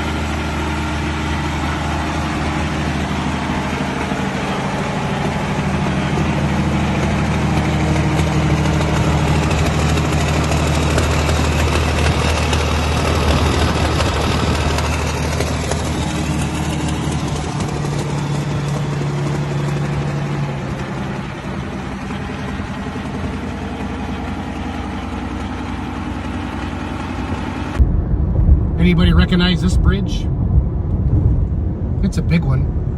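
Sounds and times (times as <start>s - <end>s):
heavy vehicle engine droning: 0.0s - 32.9s.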